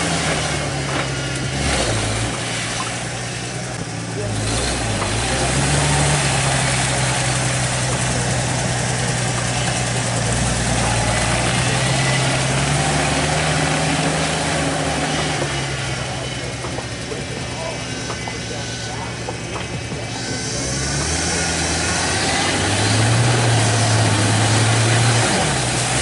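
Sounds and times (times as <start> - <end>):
truck engine running at low revs: 0.0 - 26.0.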